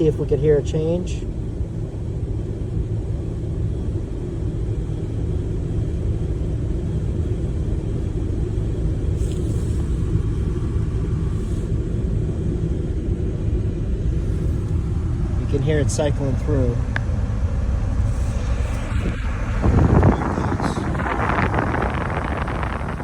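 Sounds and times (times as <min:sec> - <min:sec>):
car blower fan rushing: 0:00.0 - 0:23.0.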